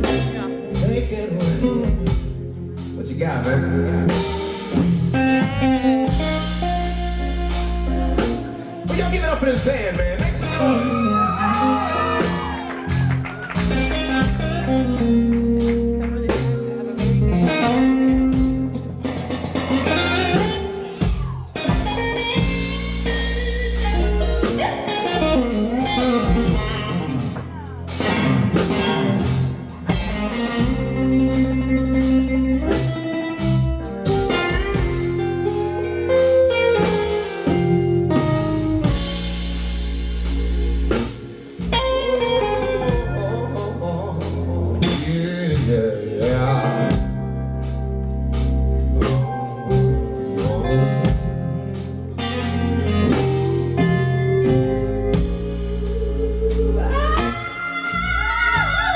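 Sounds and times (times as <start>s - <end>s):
blues band playing: 0.0s - 58.9s
drum kit: 0.0s - 58.9s
electric guitar bending notes: 0.0s - 58.9s.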